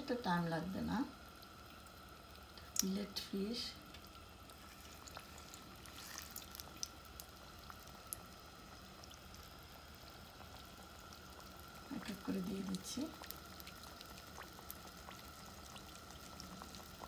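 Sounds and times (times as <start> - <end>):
fish frying in oil: 0.0 - 17.0.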